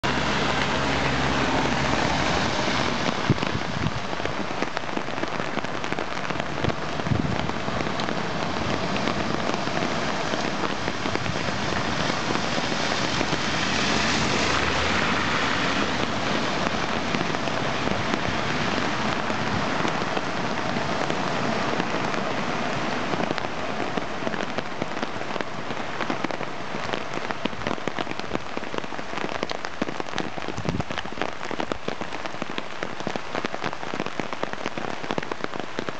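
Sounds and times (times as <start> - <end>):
car driving through water: 0.0 - 34.4
rain on water and pavement: 0.0 - 35.9.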